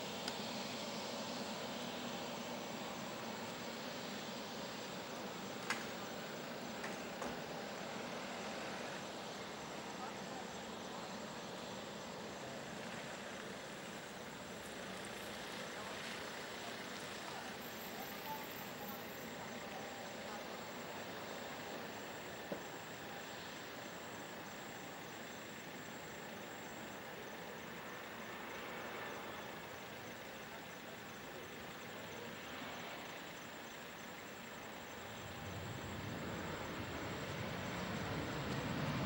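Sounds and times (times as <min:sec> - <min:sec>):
jet engines hissing: 0:00.0 - 0:18.0, 0:18.6 - 0:39.0
high constant whine: 0:00.0 - 0:39.0.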